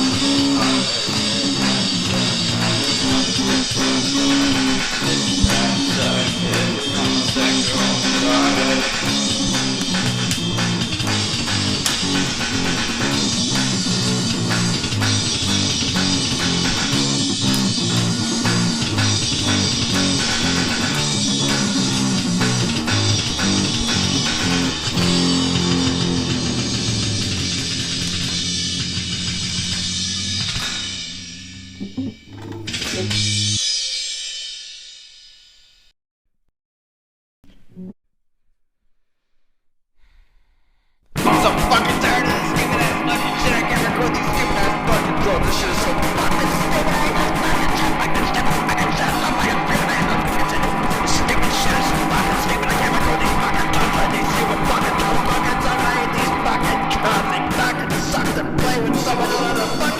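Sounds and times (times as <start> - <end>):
rock music: 0.0 - 33.7, 41.2 - 59.9.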